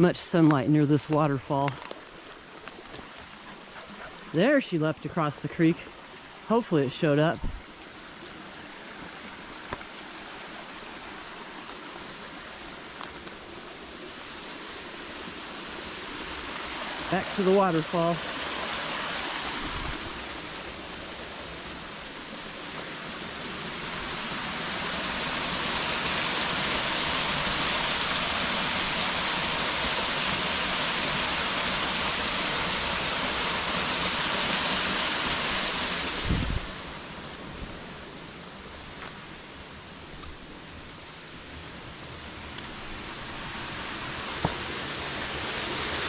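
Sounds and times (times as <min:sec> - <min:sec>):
waterfall rushing: 0:04.2 - 0:37.4, 0:41.2 - 0:46.0.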